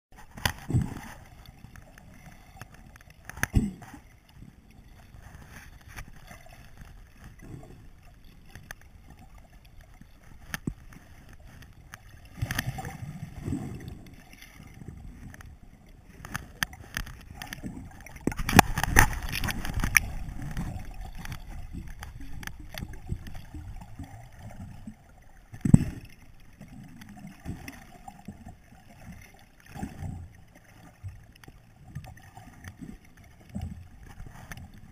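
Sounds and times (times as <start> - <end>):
churning water: 0.1 - 34.9
muffled underwater water rush: 0.1 - 34.9.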